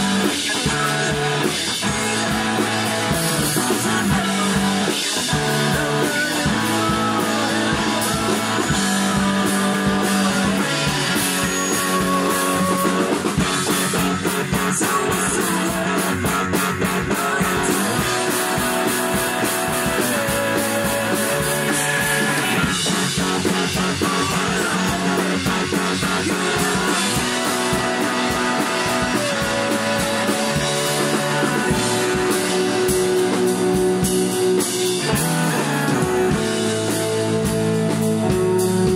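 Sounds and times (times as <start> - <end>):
man singing into a microphone: 0.0 - 33.1
bass guitar: 0.0 - 38.9
drum kit with cymbals: 0.0 - 38.9
electric guitars: 0.0 - 38.9.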